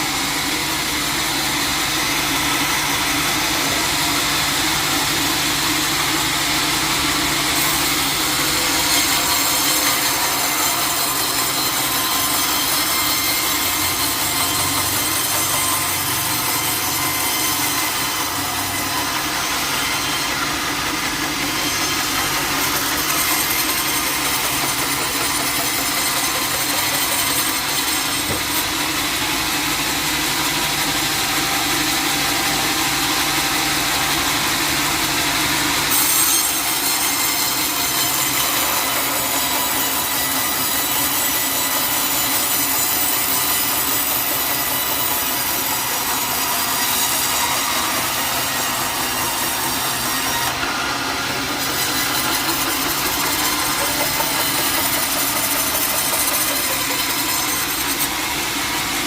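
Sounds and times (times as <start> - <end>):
sawmill saw cutting log: 0.0 - 59.0.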